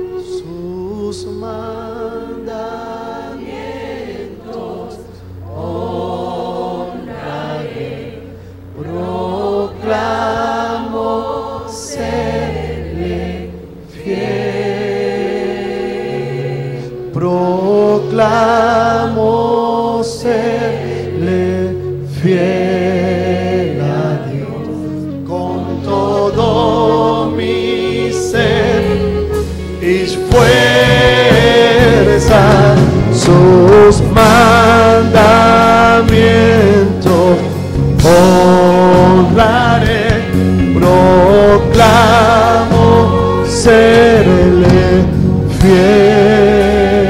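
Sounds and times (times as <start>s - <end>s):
band playing: 0.0s - 47.0s
choir singing: 0.0s - 47.0s.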